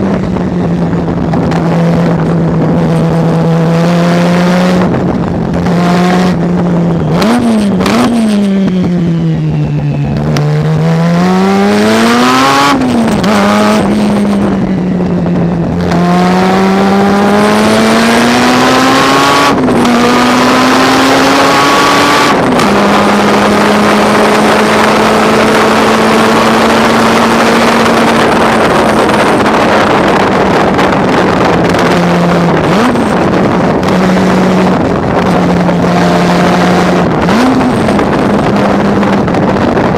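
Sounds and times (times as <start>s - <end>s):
racing car engine revving: 0.0s - 39.9s
wind and road noise: 0.0s - 39.9s.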